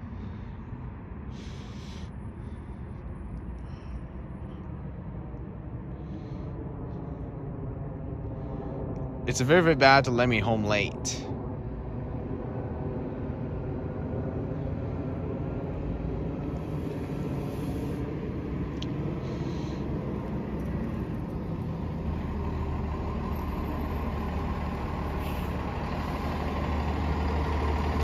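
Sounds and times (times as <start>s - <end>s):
bus engine rumble: 0.0s - 28.0s.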